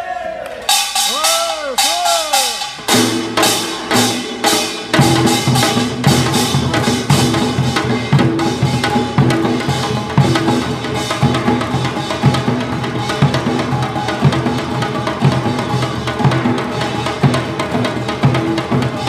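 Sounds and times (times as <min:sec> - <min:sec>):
drums beating fast rhythm: 0:00.7 - 0:19.0.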